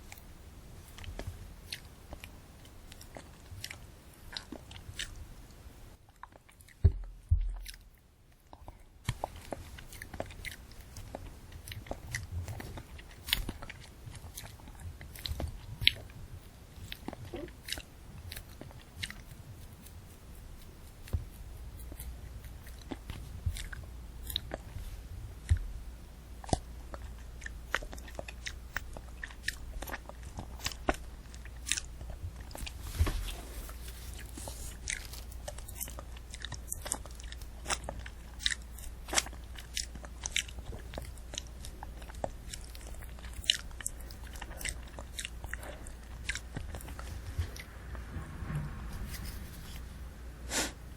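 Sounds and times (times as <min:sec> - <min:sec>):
chewing crunchy candy apple: 0:00.0 - 0:48.0.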